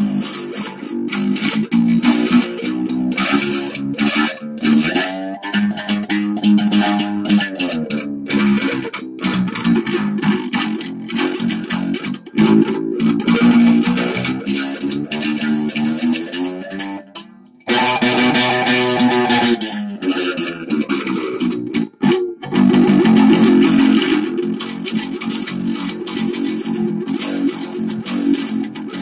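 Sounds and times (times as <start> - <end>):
overdriven electric guitar riff: 0.0 - 29.0.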